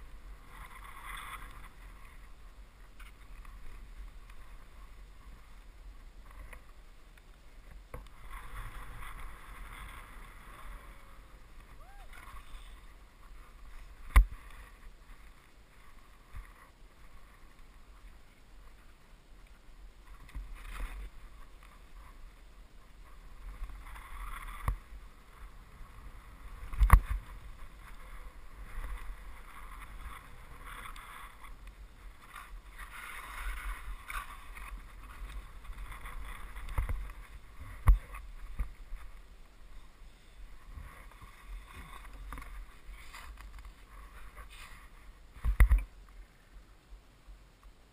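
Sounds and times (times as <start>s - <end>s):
skis swishing through snow: 0.0s - 6.8s, 7.5s - 45.6s.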